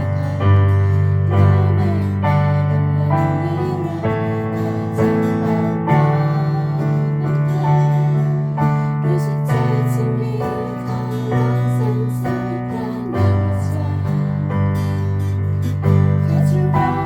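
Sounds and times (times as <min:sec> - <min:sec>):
keyboard chords: 0:00.0 - 0:17.0
sustained bass notes: 0:00.0 - 0:17.0.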